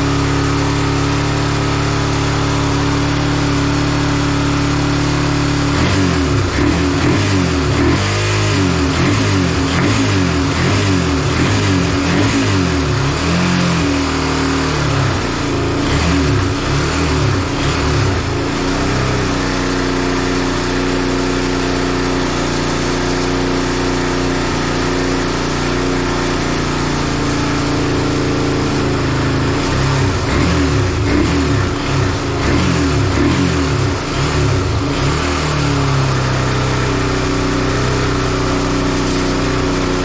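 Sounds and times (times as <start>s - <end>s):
motorbike engine revving: 0.0s - 40.0s.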